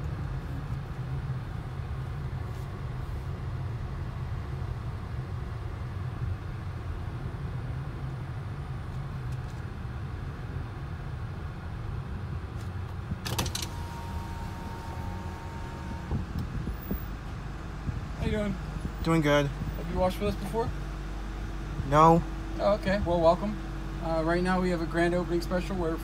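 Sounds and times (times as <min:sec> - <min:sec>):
car engine and tyres rumble: 0:00.0 - 0:26.0.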